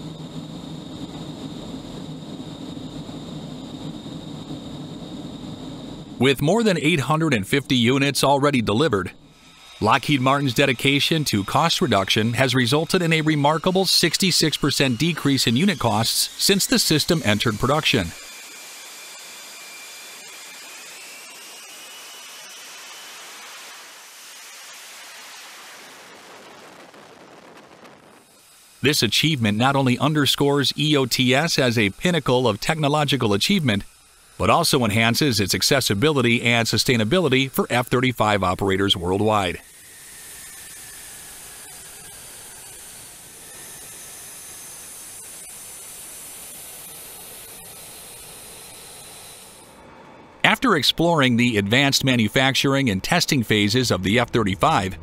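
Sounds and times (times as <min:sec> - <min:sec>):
faint high jet whine: 0:00.0 - 0:55.0
jet engine rushing hiss: 0:00.0 - 0:55.0.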